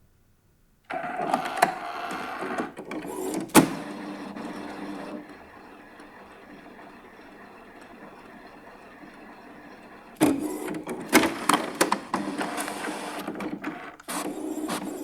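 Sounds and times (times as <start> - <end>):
printer running with clatter: 0.9 - 15.0
printer sharp clicks: 0.9 - 15.0.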